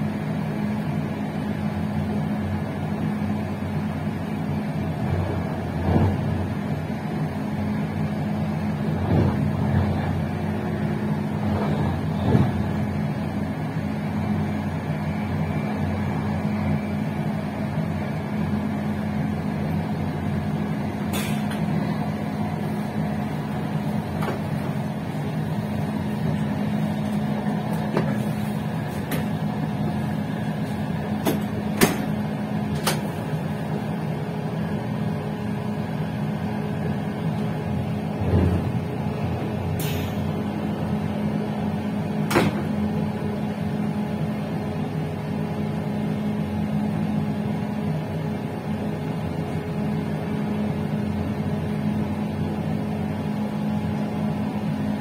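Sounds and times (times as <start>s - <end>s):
train running hum: 0.0s - 55.0s.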